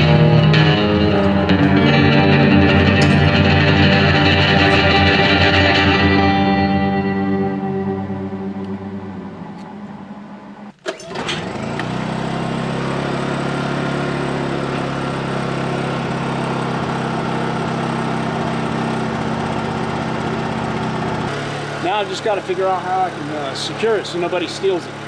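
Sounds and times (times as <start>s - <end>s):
generator starting and running: 0.0s - 25.0s.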